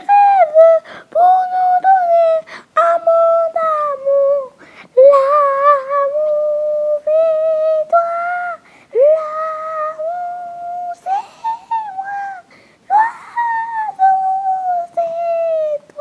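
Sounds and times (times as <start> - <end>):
high voice humming a tune: 0.0 - 16.0.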